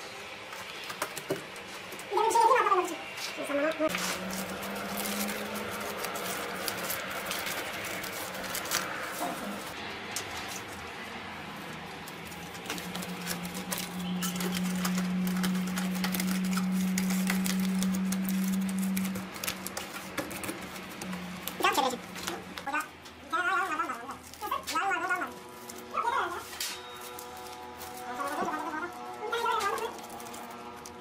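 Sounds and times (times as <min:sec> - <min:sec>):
foil crinkling and rustling: 0:03.9 - 0:31.0.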